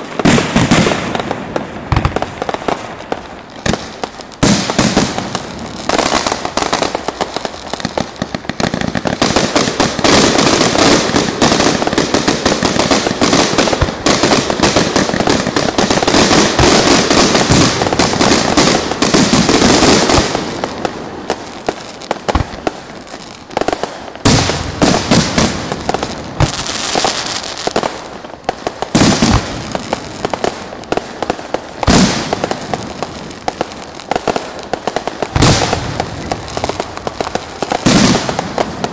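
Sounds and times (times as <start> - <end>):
firecrackers crackling: 0.0 - 38.9.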